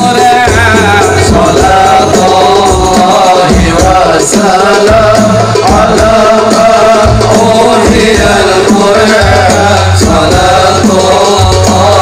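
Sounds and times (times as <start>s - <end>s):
frame drums and hand percussion: 0.0s - 12.0s.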